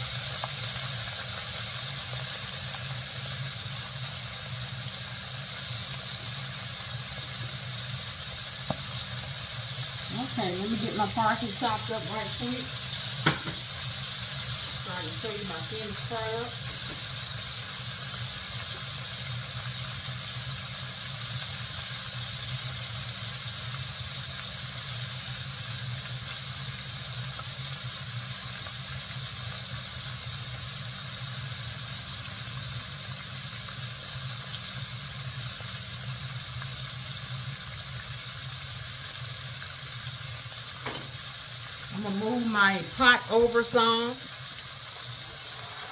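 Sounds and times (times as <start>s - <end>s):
deep-frying sizzle in oil: 0.0s - 45.9s.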